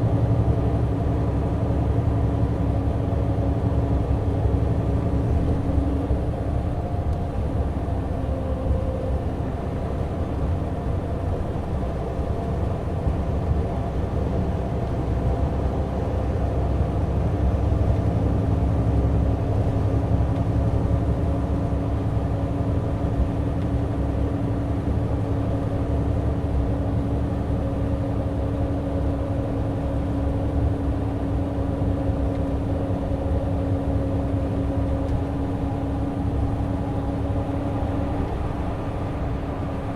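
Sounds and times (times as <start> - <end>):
coach diesel engine rumble: 0.0 - 39.9
road noise: 0.0 - 39.9.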